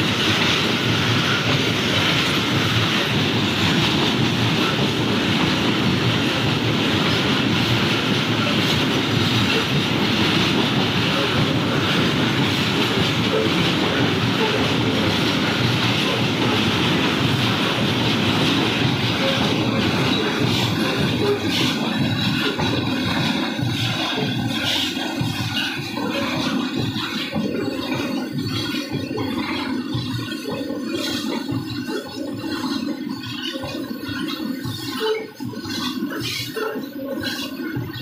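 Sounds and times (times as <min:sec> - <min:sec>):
train wheels rumbling on track: 0:00.0 - 0:38.0
wheels clickety-clack: 0:00.0 - 0:38.0.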